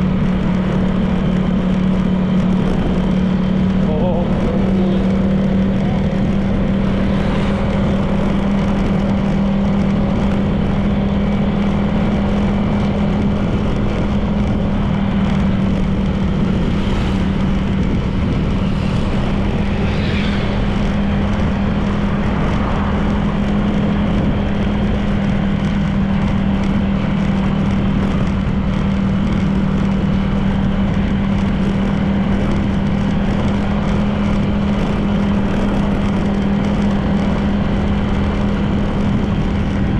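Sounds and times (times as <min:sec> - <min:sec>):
road noise: 0:00.0 - 0:39.9
scooter engine running: 0:00.0 - 0:39.9.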